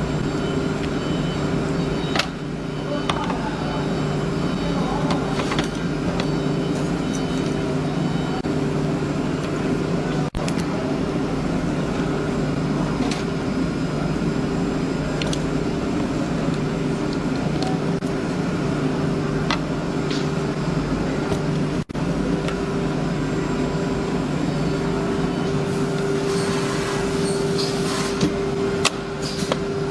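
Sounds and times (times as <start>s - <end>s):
woodworking machinery humming: 0.0s - 29.9s.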